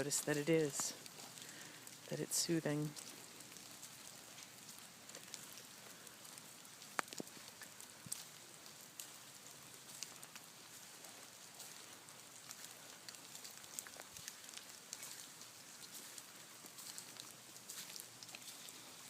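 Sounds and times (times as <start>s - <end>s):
rain dripping onto leaves: 0.0s - 19.0s.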